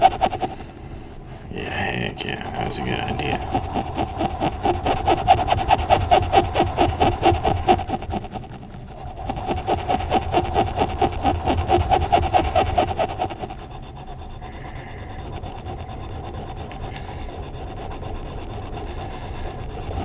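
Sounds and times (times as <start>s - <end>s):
pencil scribbling on paper: 0.0s - 0.8s, 1.8s - 20.0s.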